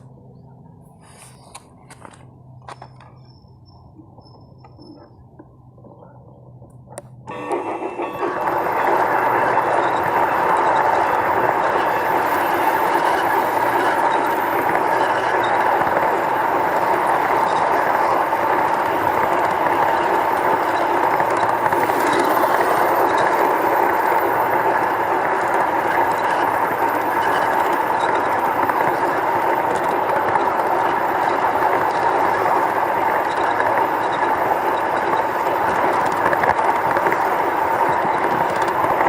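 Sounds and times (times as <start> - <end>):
miniature train whirring rattle: 7.3 - 39.0.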